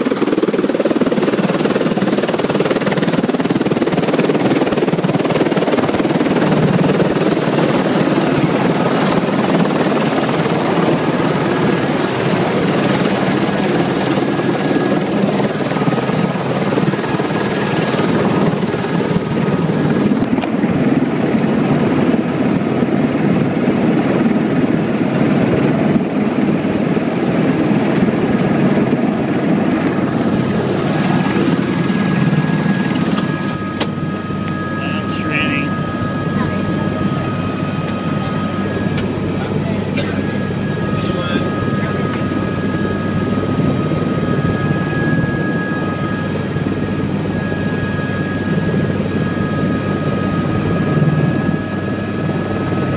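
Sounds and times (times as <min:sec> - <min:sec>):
helicopter rotor and engine: 0:00.0 - 0:52.9
high turbine whine: 0:00.0 - 0:52.9.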